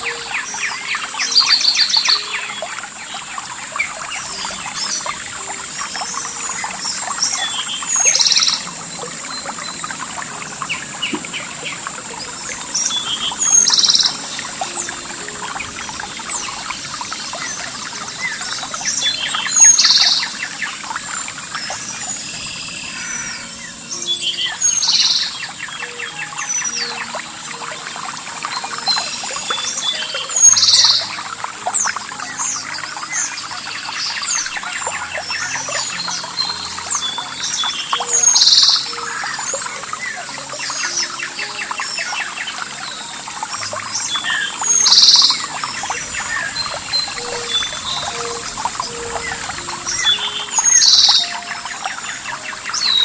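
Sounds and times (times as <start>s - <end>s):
soft sustained background music: 0.0s - 53.0s
songbirds chirping and whistling: 0.0s - 53.0s
trickling water: 0.0s - 53.0s.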